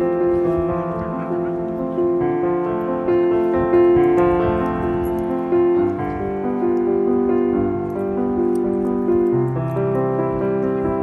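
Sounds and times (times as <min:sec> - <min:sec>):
keyboard melody of held notes: 0:00.0 - 0:11.0.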